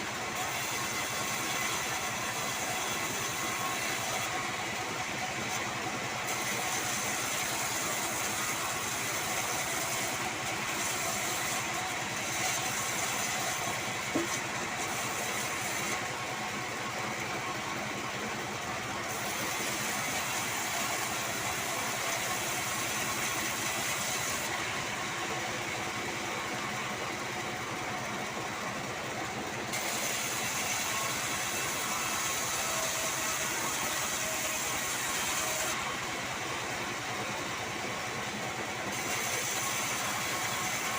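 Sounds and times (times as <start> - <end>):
band saw sawing wood: 0.0 - 29.0, 29.7 - 40.9.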